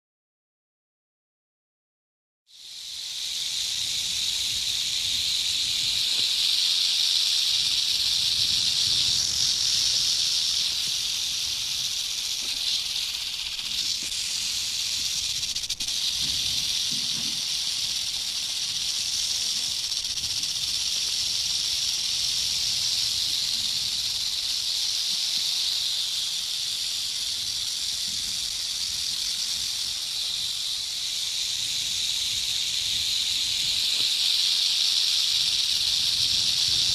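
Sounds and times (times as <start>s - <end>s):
rattlesnake tail rattle buzzing: 2.5s - 36.9s.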